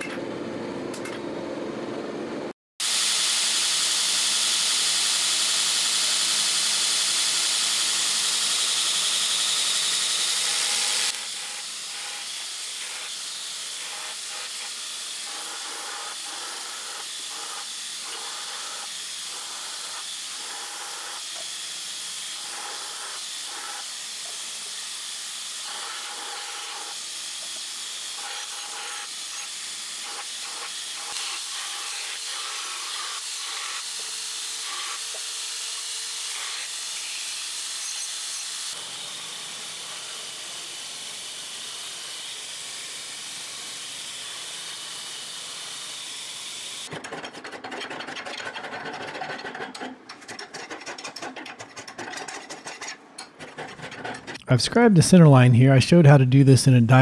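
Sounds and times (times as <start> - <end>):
belt grinder grinding steel: 2.8 - 54.4.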